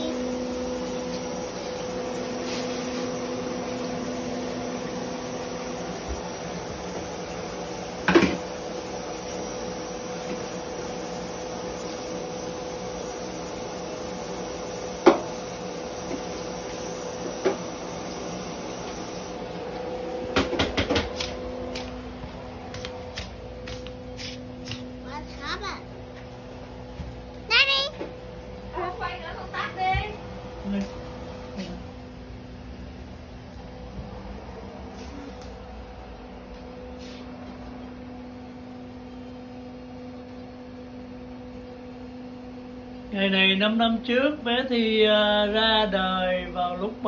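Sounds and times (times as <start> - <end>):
kitchen appliance humming: 0.0 - 47.0.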